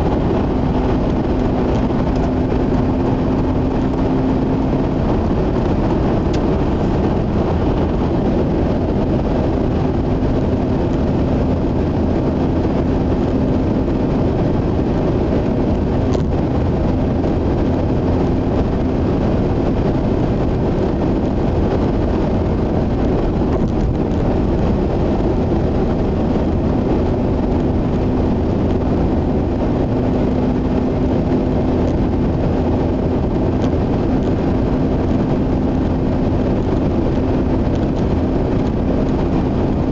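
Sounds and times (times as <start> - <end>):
engine hum: 0.0 - 39.9
tyre and road noise: 0.0 - 39.9.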